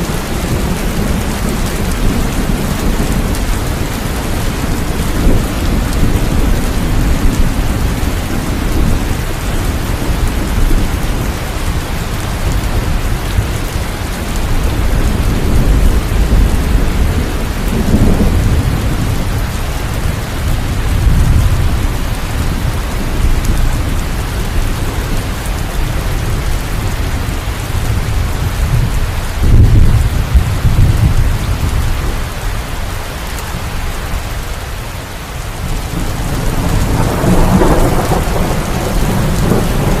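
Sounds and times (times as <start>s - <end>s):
low rolling thunder: 0.0s - 32.5s, 35.4s - 40.0s
heavy rain falling: 0.0s - 40.0s.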